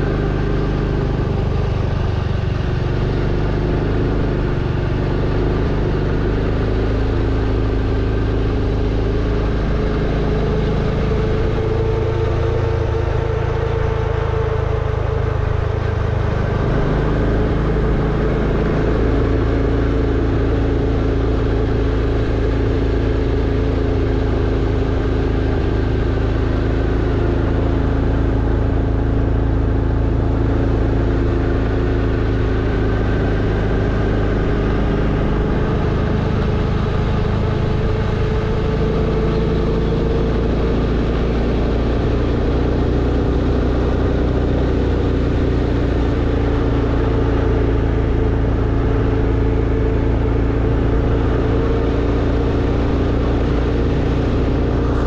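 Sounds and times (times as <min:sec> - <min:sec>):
motorbike engine running: 0:00.0 - 0:55.0
wind rumble on microphone: 0:00.0 - 0:55.0.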